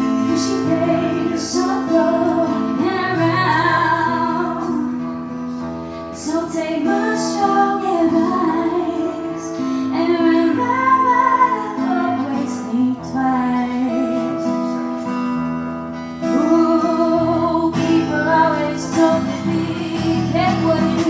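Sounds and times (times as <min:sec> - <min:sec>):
woman singing: 0:00.0 - 0:15.2, 0:16.2 - 0:21.0
strummed acoustic guitar: 0:00.0 - 0:21.0.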